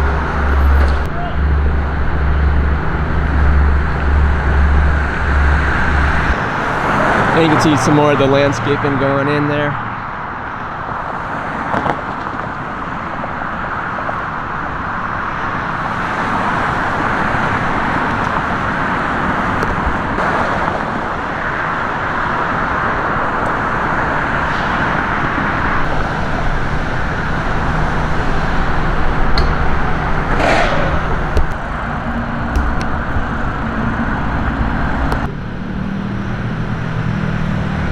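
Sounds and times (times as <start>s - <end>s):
cars passing on busy street: 0.0s - 37.9s
low engine hum: 0.0s - 37.9s.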